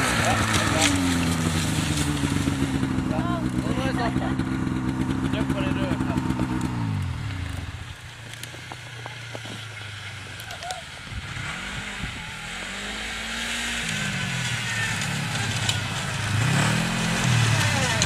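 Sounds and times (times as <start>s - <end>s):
snowmobile engines running: 0.0s - 18.0s.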